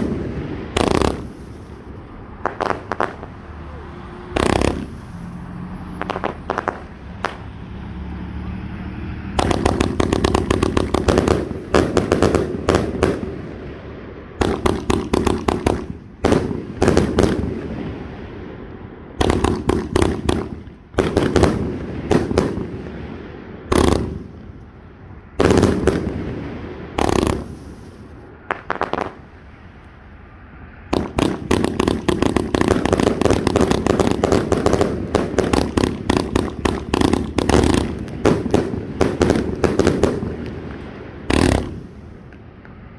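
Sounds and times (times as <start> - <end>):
firework cake firing volleys: 0.0 - 7.5, 9.4 - 18.6, 19.2 - 24.4, 25.3 - 29.4, 30.9 - 42.3.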